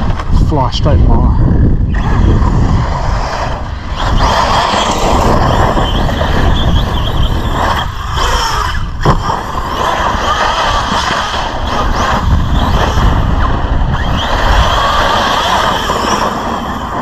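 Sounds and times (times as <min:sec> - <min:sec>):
wind on microphone: 0:00.0 - 0:17.0
electric motor whining: 0:01.7 - 0:17.0
tyres churning loose dirt: 0:01.9 - 0:17.0.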